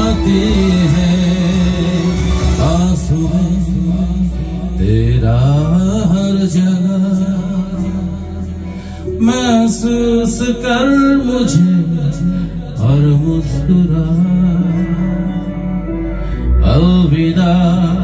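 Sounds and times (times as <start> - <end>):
instrumental backing music: 0.0 - 18.0
man singing into a microphone: 0.0 - 18.0.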